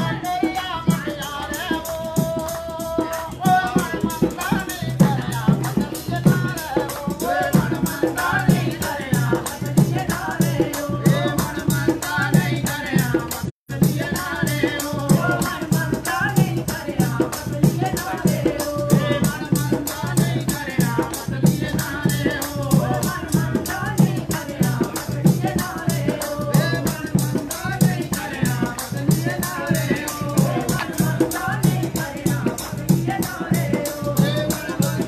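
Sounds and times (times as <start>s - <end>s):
folk song with rattle and drum: 0.0s - 35.0s.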